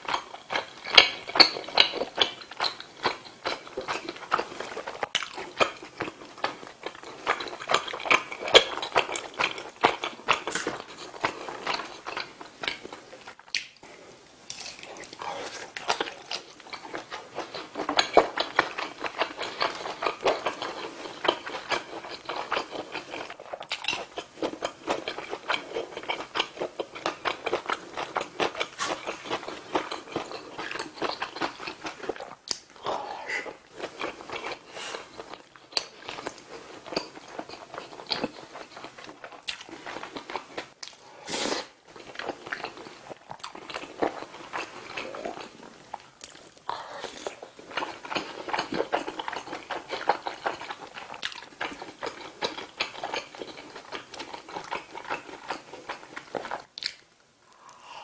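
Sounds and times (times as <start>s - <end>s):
chewing and wet mouth sounds: 0.0s - 58.0s.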